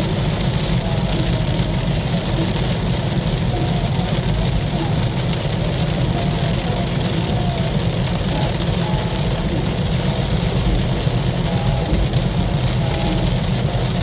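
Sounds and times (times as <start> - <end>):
low road rumble: 0.0 - 14.0
rain hitting car: 0.0 - 14.0
tyres hissing on wet road: 0.0 - 14.0.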